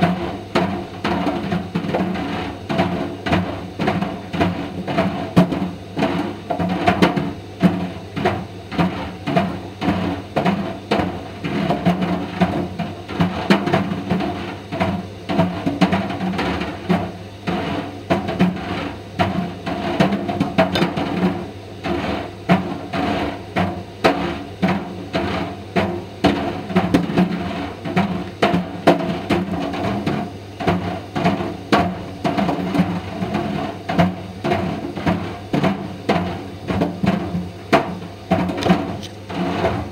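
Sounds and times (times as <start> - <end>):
dryer balls knocking in drum: 0.0 - 39.9.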